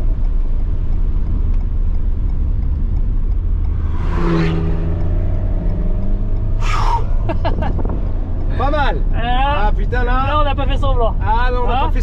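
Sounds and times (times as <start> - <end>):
car engine drone in cabin: 0.0 - 12.0
passing car rush: 0.0 - 12.0
road noise: 0.0 - 12.0.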